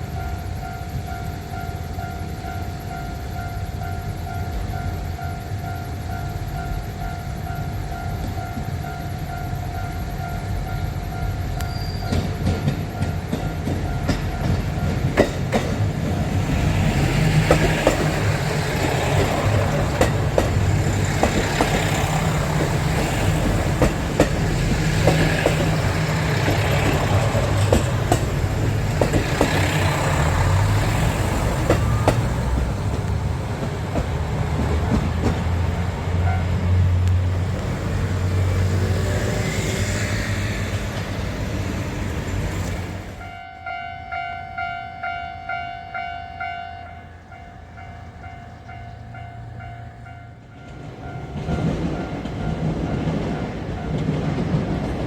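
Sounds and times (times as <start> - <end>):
train wheels clacking on rails: 0.0 - 43.4, 47.7 - 55.0.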